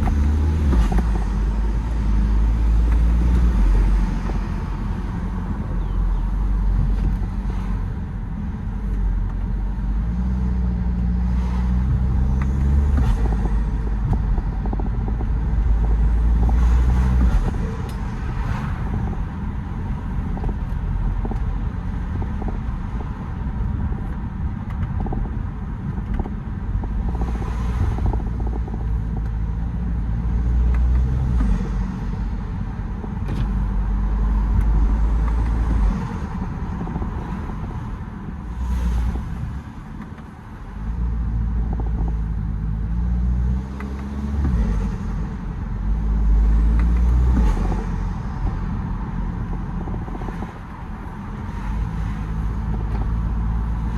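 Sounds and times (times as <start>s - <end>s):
diesel engine revving: 0.0s - 25.2s, 25.9s - 53.9s.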